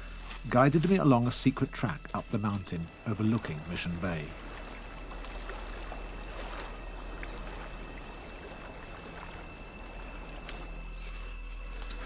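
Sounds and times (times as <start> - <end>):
low hum: 0.0 - 12.0
thin steady high tone: 0.0 - 12.0.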